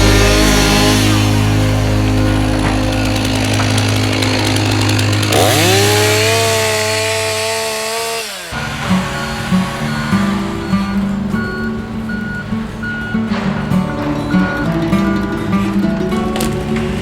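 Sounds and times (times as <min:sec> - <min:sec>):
background music: 0:00.0 - 0:07.5, 0:08.6 - 0:17.0
chainsaw revving: 0:00.0 - 0:15.4.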